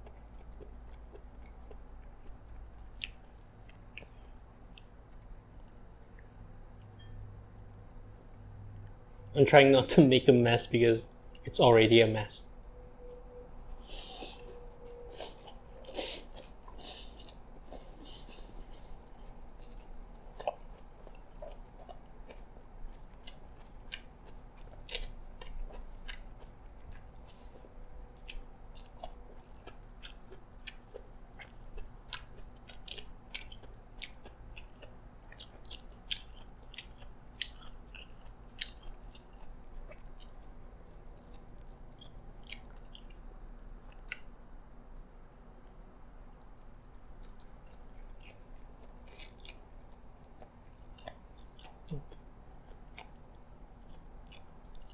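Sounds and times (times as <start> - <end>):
wet chewing with mouth clicks: 0.0 - 9.3, 12.8 - 43.3, 43.9 - 44.5, 46.3 - 54.9.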